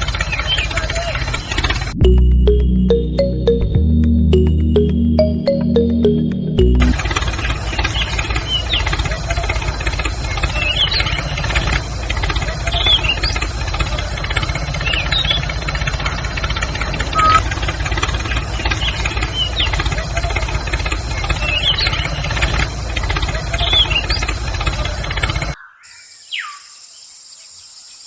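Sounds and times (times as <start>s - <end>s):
engine rumbling: 1.6s - 25.5s.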